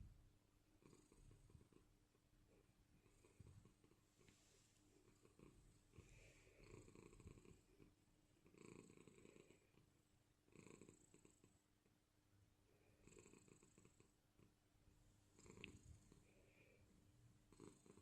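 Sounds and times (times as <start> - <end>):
cat purring: 0.7 - 12.0, 12.6 - 18.0.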